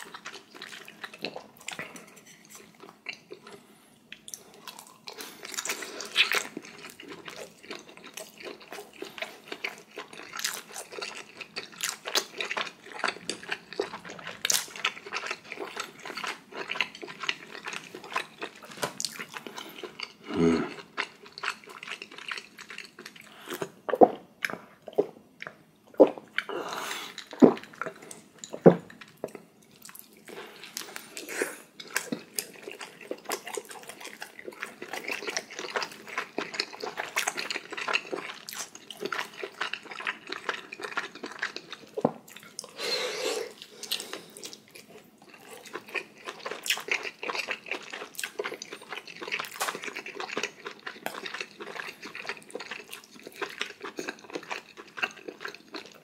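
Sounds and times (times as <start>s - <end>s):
wet chewing and smacking: 0.0s - 26.5s, 27.1s - 42.8s, 43.6s - 56.0s.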